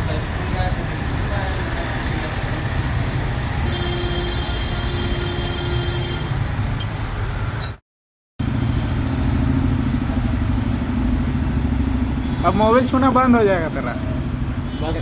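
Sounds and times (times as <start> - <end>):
street traffic engines: 0.0 - 7.8, 8.4 - 15.0.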